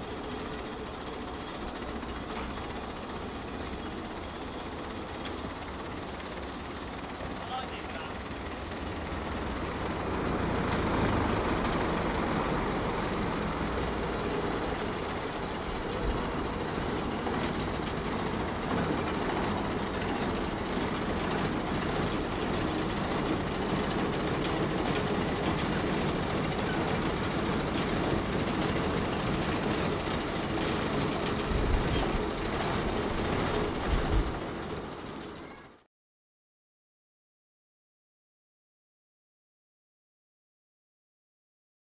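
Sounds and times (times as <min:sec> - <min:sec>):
diesel locomotive engine running: 0:00.0 - 0:35.8
wagons rumbling along track: 0:00.0 - 0:35.8.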